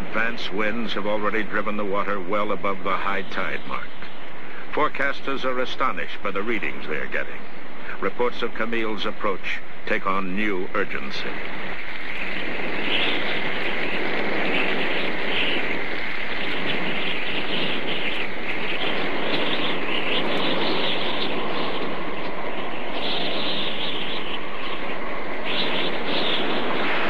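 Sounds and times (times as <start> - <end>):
driving rain: 0.0 - 27.0
strong gusting wind: 0.0 - 27.0.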